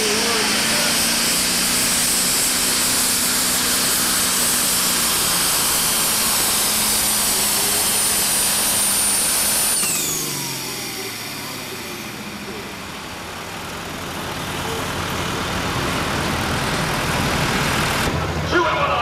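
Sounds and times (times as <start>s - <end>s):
diesel engine at full load: 0.0s - 19.0s
high turbo whine: 0.0s - 19.0s.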